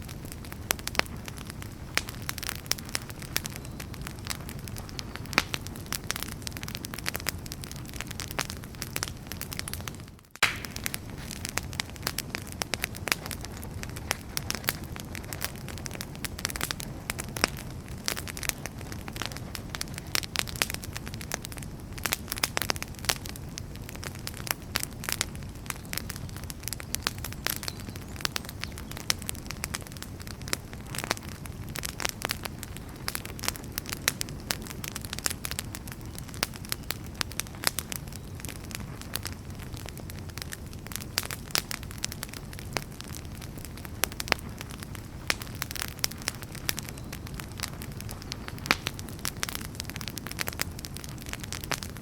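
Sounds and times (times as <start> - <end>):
fire rumbling in a fireplace: 0.0 - 52.0
firewood crackling and popping: 0.0 - 52.0.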